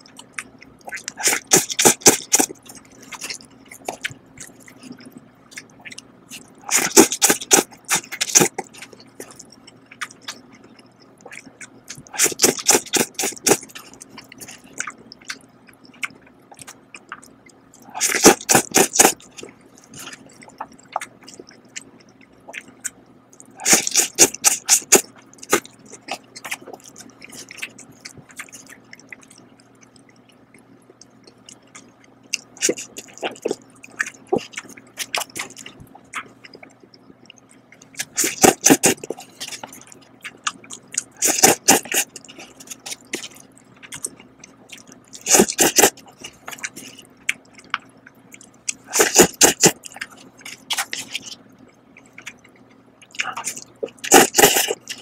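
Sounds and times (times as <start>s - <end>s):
noodles slurped: 0.0s - 10.4s, 11.2s - 16.0s, 16.6s - 21.8s, 22.5s - 30.1s, 31.5s - 36.8s, 37.9s - 51.4s, 53.1s - 55.0s
wet chewing: 0.0s - 55.0s.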